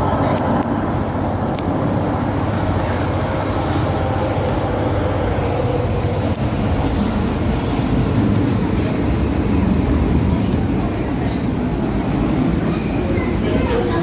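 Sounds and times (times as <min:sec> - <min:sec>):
train rumbling on board: 0:00.0 - 0:14.0.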